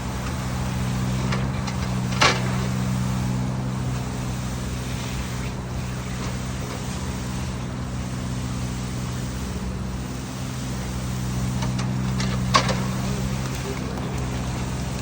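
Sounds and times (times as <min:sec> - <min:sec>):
pump motor droning: 0:00.0 - 0:15.0.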